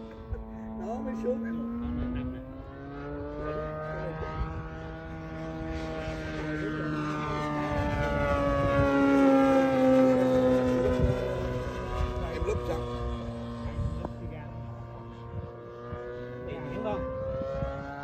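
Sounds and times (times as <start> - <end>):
model plane engine droning: 0.0 - 18.0.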